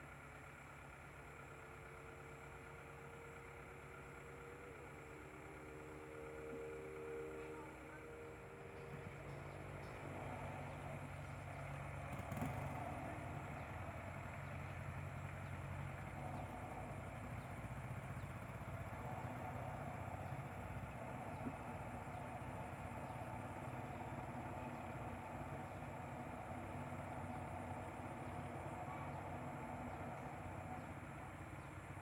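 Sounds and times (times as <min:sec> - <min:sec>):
combine harvester engine running: 0:00.0 - 0:32.0.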